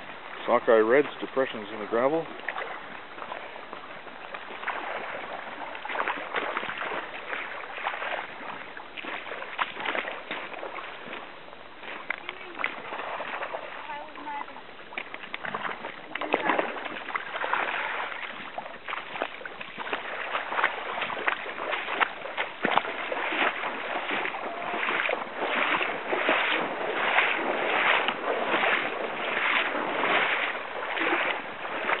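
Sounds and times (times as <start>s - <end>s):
stream water splashing: 0.0s - 32.0s
swishing strokes in water: 0.0s - 32.0s.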